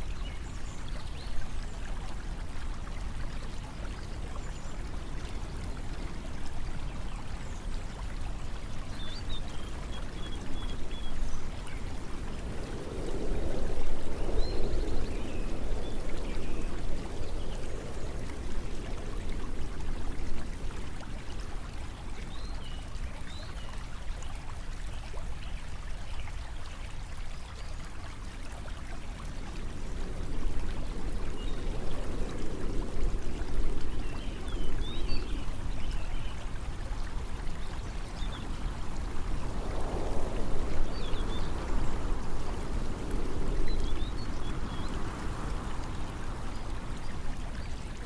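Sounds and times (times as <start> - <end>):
flowing stream water: 0.0 - 48.0.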